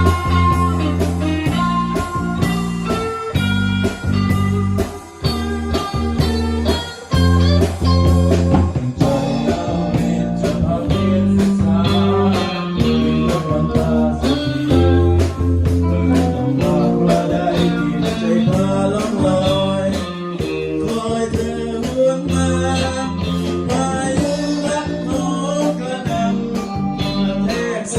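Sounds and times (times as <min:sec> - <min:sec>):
bass: 0:00.0 - 0:27.9
guitar melody: 0:00.0 - 0:27.9
steady drum beat: 0:00.0 - 0:27.9.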